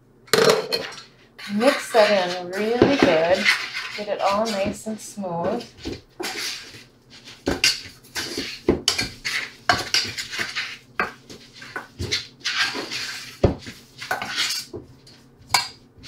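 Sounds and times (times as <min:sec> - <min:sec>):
utensil scraping a saucepan: 0:00.5 - 0:16.0.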